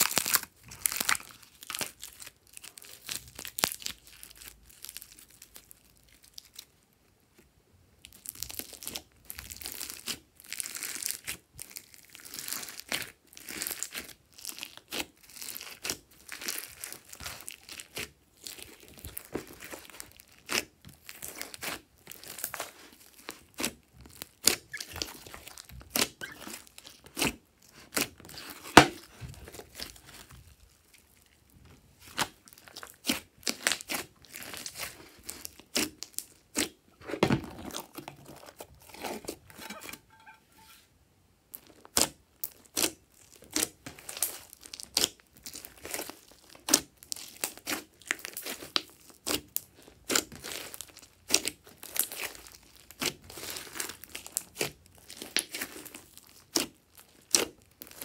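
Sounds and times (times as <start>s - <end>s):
slime crackling and popping: 0.0s - 6.7s, 8.0s - 36.9s, 41.5s - 58.0s.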